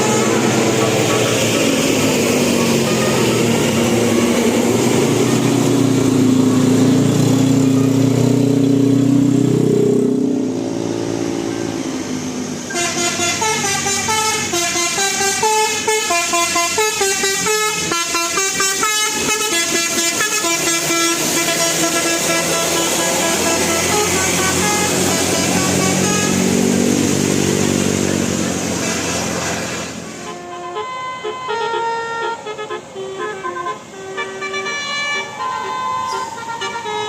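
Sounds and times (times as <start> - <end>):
bus melody horn: 0.0 - 6.2, 12.6 - 37.0
heavy traffic rumble: 0.0 - 37.0.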